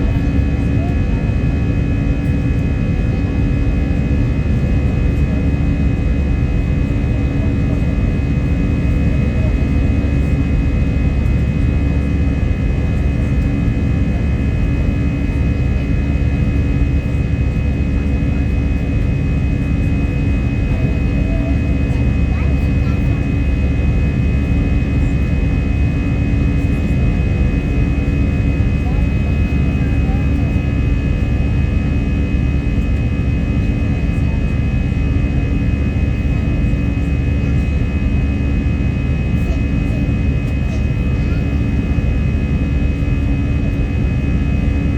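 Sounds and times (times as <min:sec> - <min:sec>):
jet engine whine: 0:00.0 - 0:44.9
jet engines rumbling: 0:00.0 - 0:44.9.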